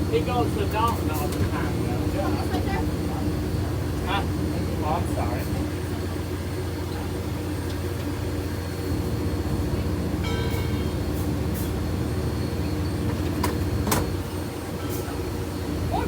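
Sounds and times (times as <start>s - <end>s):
idling train engine rumble: 0.0s - 16.0s.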